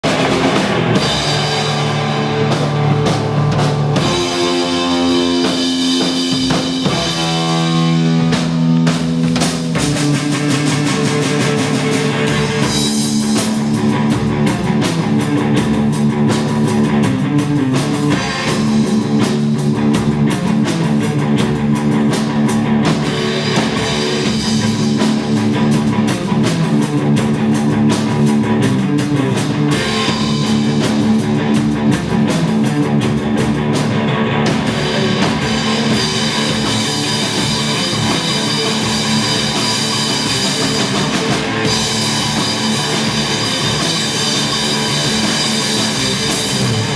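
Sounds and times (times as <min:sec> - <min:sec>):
drum kit steady beat: 0:00.0 - 0:46.9
electric guitar playing: 0:00.0 - 0:46.9.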